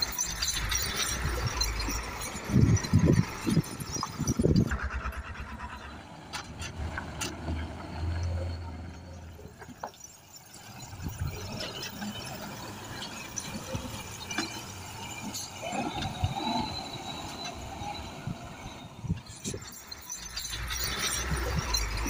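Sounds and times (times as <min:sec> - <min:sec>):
truck crawling over rocks: 0:00.0 - 0:22.0
wavering squeal: 0:00.0 - 0:22.0.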